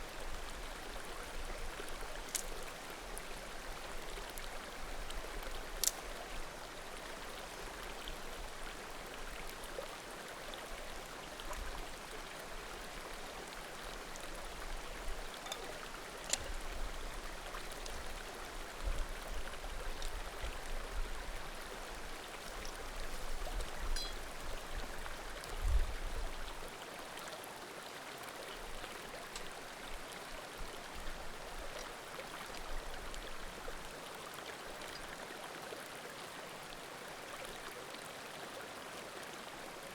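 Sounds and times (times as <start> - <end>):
creek murmuring over stones: 0.0 - 39.9.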